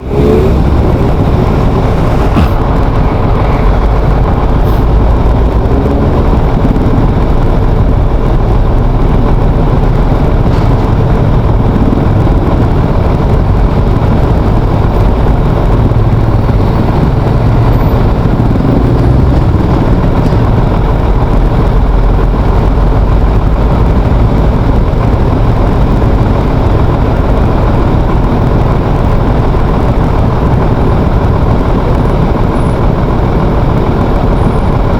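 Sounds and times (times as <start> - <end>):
road vehicle low rumble: 0.0 - 34.9.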